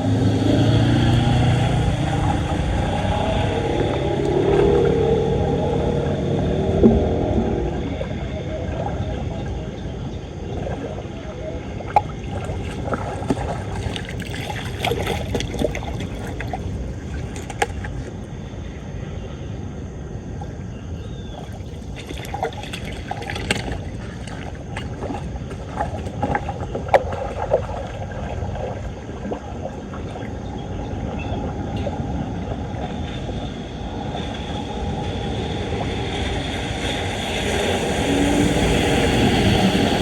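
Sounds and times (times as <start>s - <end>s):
floodwater rushing into drain: 0.0s - 18.9s, 20.3s - 40.0s.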